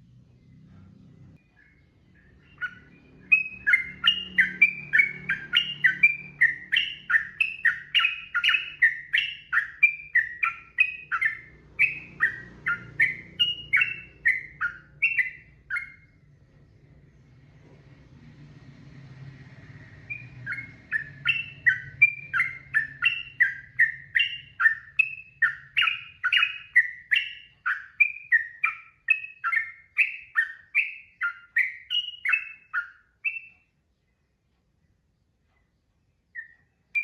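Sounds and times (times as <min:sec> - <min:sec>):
faint low hum: 0:00.0 - 0:37.0
bird singing whistled notes: 0:01.4 - 0:17.0, 0:19.7 - 0:33.8, 0:36.1 - 0:37.0.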